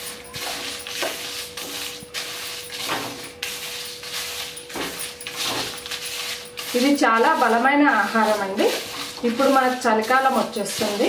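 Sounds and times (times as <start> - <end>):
spatula scraping seeds in pan: 0.0 - 11.0.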